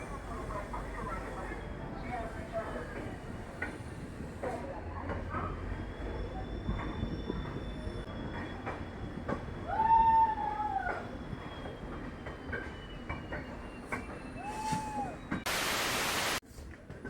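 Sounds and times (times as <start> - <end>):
train wheel squeal: 0.0 - 15.4
train rumbling: 0.0 - 16.3.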